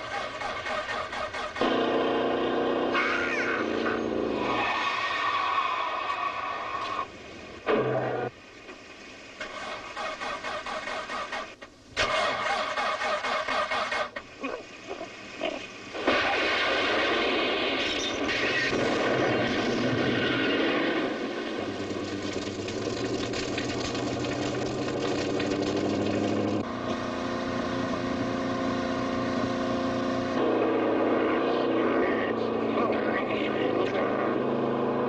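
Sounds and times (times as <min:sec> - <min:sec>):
car engines running hard: 0:00.0 - 0:35.0.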